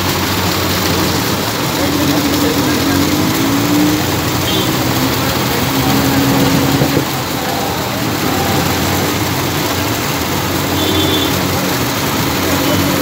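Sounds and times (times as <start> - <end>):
pump machines humming: 0.0 - 13.0
water gushing into steel tanks: 0.0 - 13.0.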